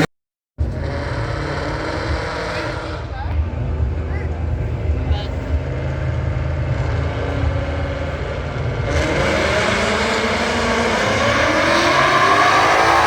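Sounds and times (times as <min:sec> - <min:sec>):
car engine accelerating hard: 0:00.0 - 0:13.0
car engine rumbling low: 0:00.0 - 0:13.0.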